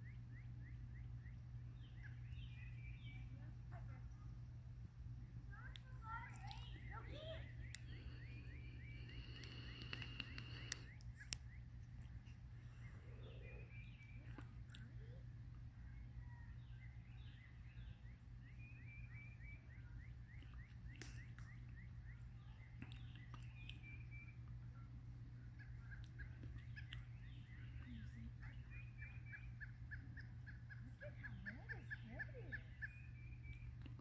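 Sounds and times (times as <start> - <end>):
birds chirping: 0.0 - 34.0
low background hum: 0.0 - 34.0.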